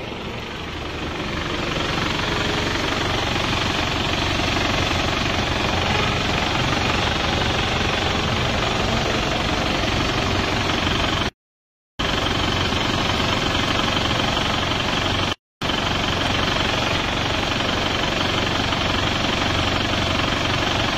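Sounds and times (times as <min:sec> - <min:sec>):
diesel engine running: 0:00.0 - 0:11.4, 0:12.0 - 0:20.9.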